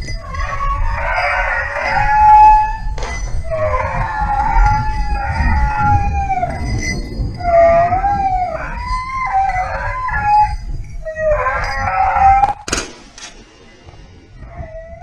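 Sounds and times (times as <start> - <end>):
hounds howling: 0.0 - 15.0.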